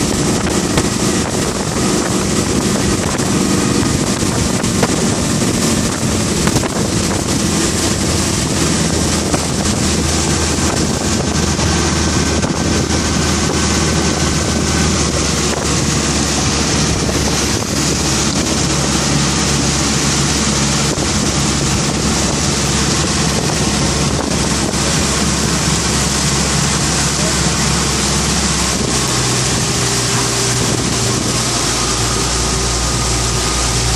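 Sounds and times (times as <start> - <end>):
outboard motor running: 0.0 - 33.9
rush of boat wake: 0.0 - 33.9
wind buffeting microphone: 0.0 - 33.9.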